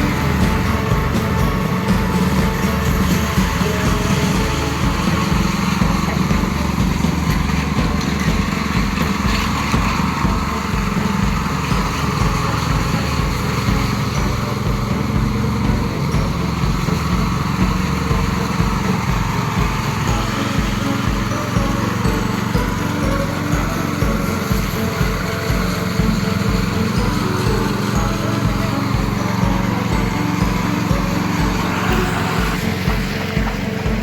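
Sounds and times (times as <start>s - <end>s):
small petrol engine running: 0.0s - 34.0s.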